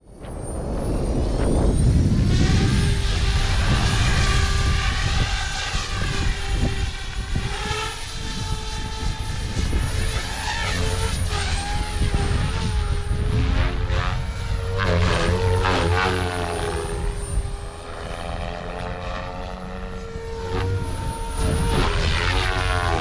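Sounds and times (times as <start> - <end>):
rc helicopter motor whine: 0.0 - 23.0
wind rumble on microphone: 0.0 - 23.0.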